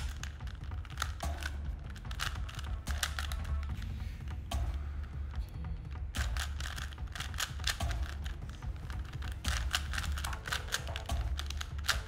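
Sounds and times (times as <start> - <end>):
puzzle cube layers clicking: 0.0 - 4.9, 5.9 - 12.0.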